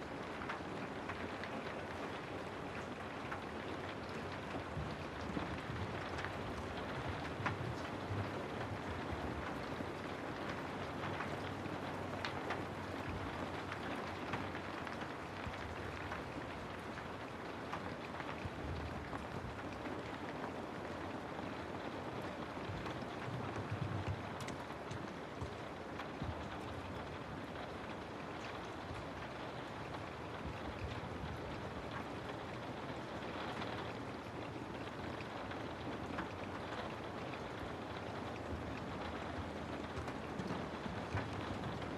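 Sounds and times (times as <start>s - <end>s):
steady rain on a house: 0.0s - 41.9s.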